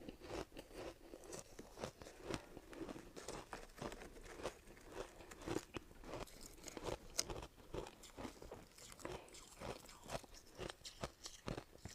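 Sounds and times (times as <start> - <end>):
chewing crunchy ice: 0.0 - 11.9.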